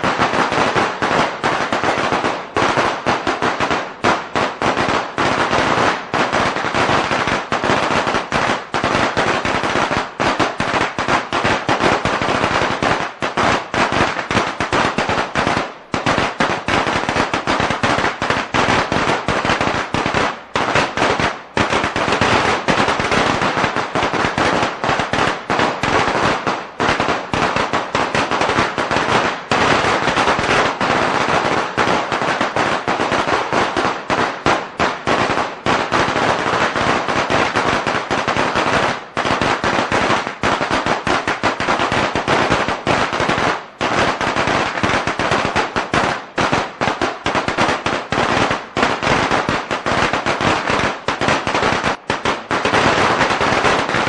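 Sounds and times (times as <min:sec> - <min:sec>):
firecrackers rattling bangs: 0:00.0 - 0:54.0.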